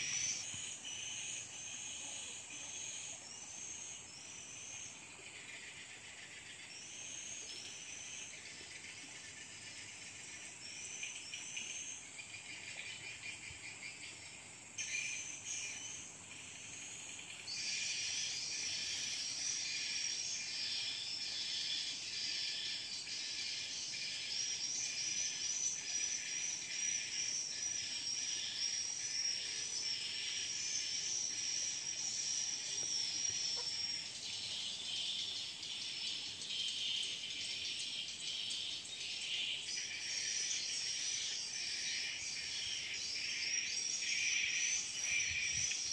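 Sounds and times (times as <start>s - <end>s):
insect chorus: 0.0s - 45.9s.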